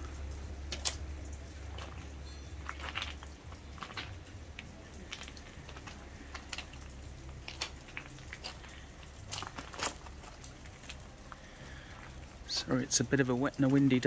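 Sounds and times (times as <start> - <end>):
footsteps on gravel: 0.7 - 12.7.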